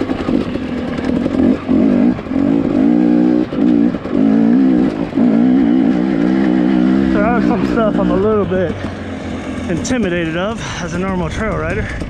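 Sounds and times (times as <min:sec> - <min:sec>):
two-stroke dirt bike revving: 0:00.0 - 0:12.0.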